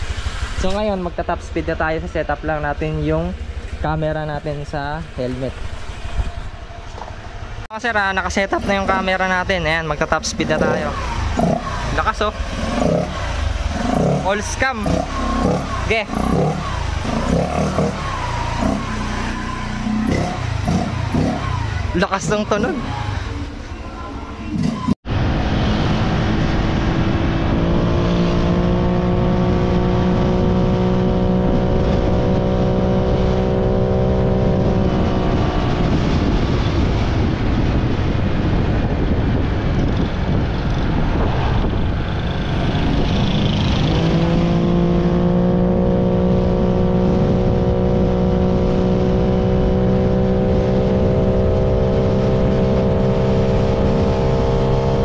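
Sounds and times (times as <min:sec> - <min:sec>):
rushing wind noise: 0:00.0 - 0:55.0
scooter engine at full throttle: 0:08.3 - 0:55.0.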